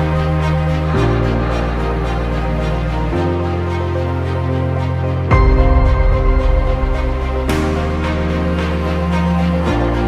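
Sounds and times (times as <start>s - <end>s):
deep bass: 0.0s - 10.0s
sustained chords: 0.0s - 10.0s.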